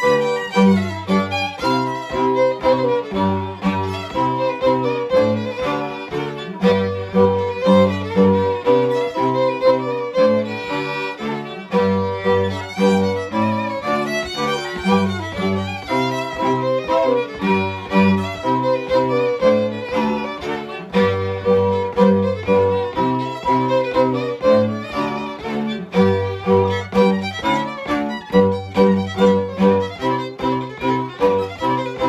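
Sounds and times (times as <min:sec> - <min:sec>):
bass bowing driving rhythm: 0:00.0 - 0:32.0
lead fiddle melody: 0:00.0 - 0:32.0
second fiddle: 0:00.0 - 0:32.0.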